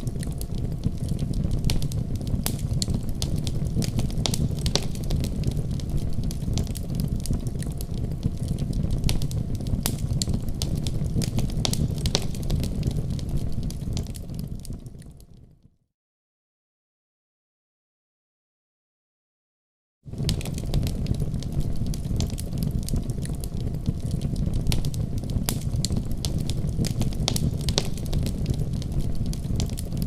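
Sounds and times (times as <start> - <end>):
fire crackling and popping: 0.0 - 15.6, 20.1 - 30.0.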